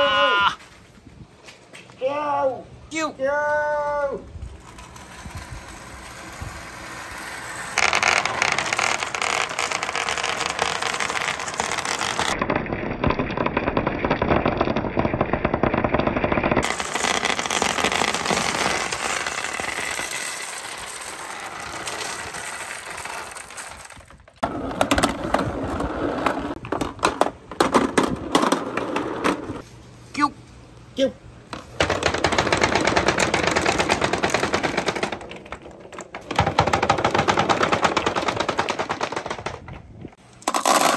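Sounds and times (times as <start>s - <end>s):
balls knocking against track: 4.5s - 29.6s, 31.5s - 40.9s.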